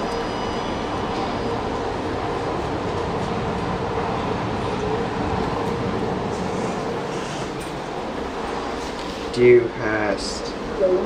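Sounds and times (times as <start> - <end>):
lift car rumble and hum: 0.0 - 9.8.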